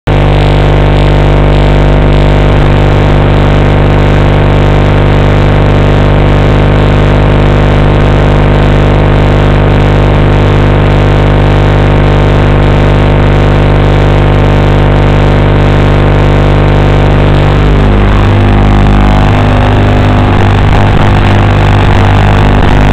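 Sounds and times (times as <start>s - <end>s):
drone motors whining: 0.3s - 22.9s.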